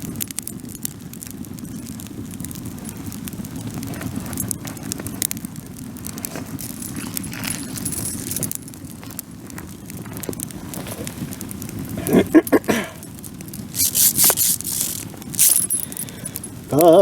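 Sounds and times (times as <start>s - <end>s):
bonfire flames rushing: 0.0s - 17.0s
fire crackling and popping: 0.0s - 17.0s.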